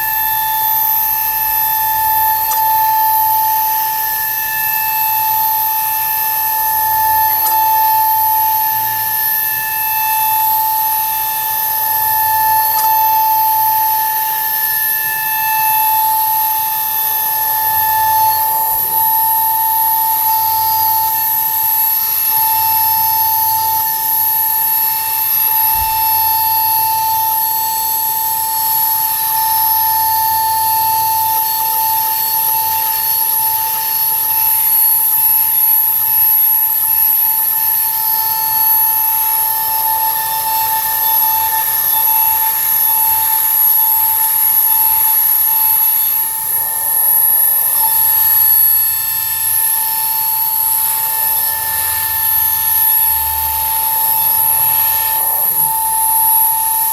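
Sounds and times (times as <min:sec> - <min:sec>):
router spindle whining: 0:00.0 - 0:56.9.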